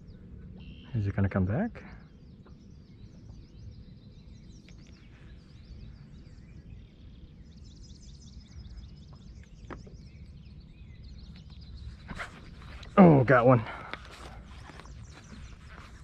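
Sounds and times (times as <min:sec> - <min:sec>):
birds chirping and singing: 0:00.0 - 0:16.0
low steady rumble: 0:00.0 - 0:16.0.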